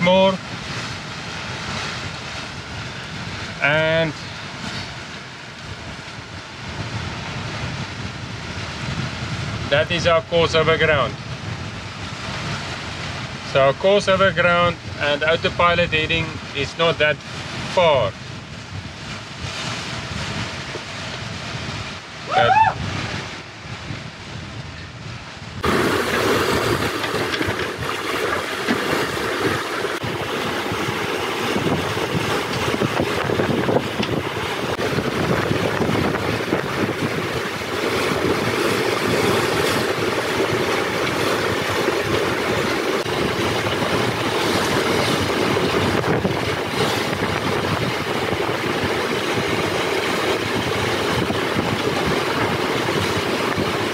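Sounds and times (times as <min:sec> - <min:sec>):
water rushing past hulls: 0:00.0 - 0:53.9
wind on microphone: 0:00.0 - 0:53.9.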